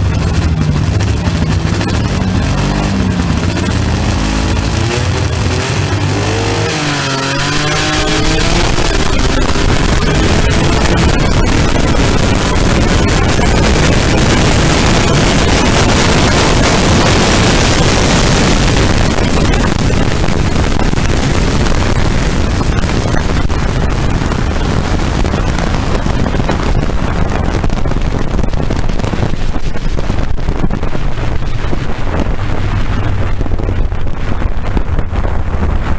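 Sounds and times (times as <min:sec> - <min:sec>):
dragster engine at full throttle: 0:00.0 - 0:35.9
wind buffeting microphone: 0:00.0 - 0:35.9.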